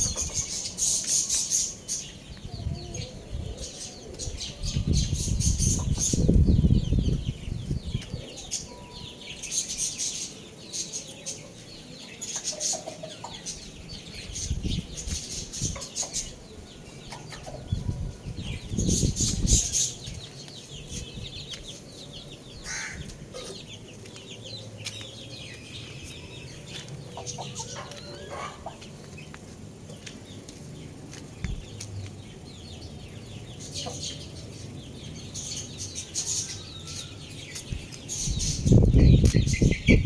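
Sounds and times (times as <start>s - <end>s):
roosters clucking: 0.0s - 8.9s, 9.5s - 40.0s.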